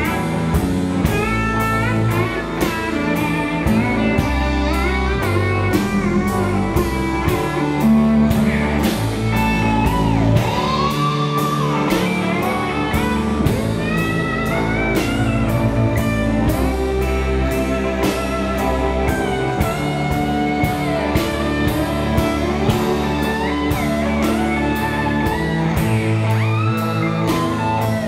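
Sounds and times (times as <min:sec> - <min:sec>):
drums steady beat: 0:00.0 - 0:28.0
electric guitar: 0:00.0 - 0:28.0
lap steel guitar sliding lead: 0:00.0 - 0:28.0
upright bass: 0:00.0 - 0:28.0.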